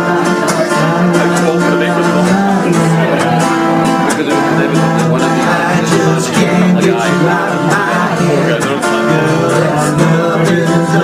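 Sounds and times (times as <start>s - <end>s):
acoustic guitars strumming: 0.0s - 11.0s
man singing into microphone: 0.0s - 11.0s.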